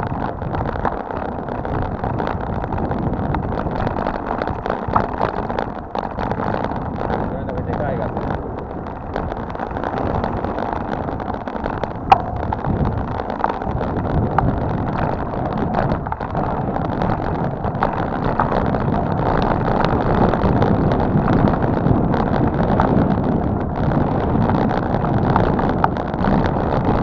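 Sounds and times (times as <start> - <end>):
bike rattles and clicks: 0.0 - 27.0
tyre and road noise: 0.0 - 27.0
wind rushing over microphone: 0.0 - 27.0.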